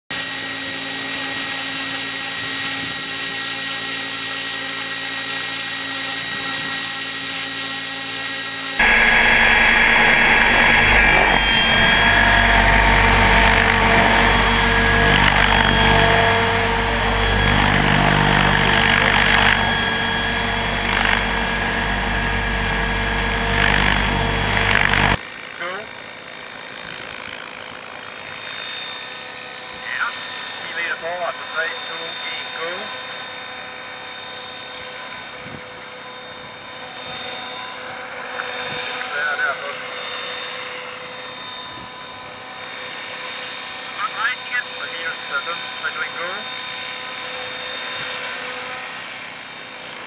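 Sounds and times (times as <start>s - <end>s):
model helicopter whine: 0.1s - 50.0s.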